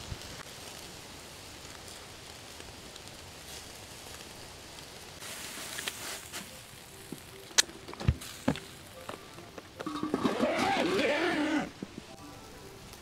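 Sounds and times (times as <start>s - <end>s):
charcoal crackling: 0.0s - 13.0s.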